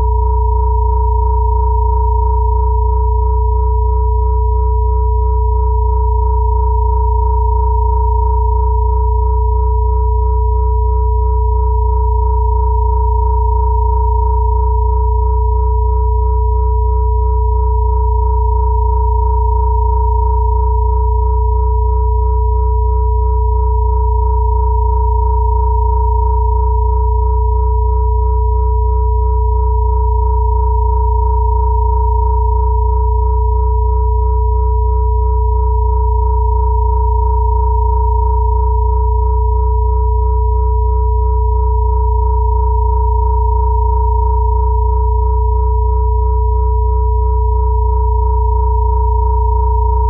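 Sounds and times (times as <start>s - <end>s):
low hum: 0.0s - 50.0s
steady pure sine tones: 0.0s - 50.0s.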